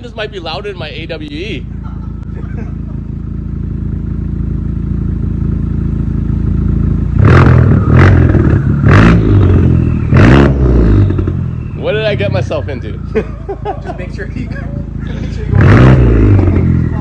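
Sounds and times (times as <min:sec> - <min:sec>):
car engine drone from inside cabin: 0:00.0 - 0:17.0.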